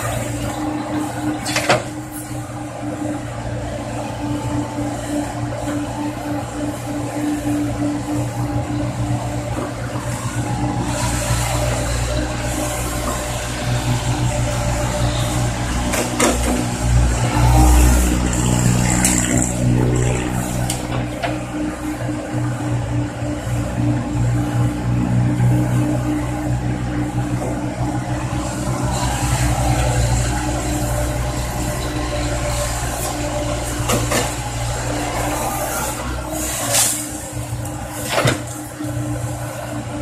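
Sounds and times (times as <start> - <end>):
excavator diesel engine: 0.0 - 40.0.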